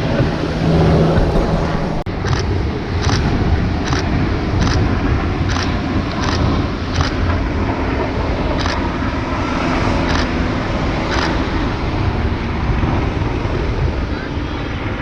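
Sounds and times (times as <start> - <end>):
helicopter rotor and turbine rumble: 0.0 - 15.0.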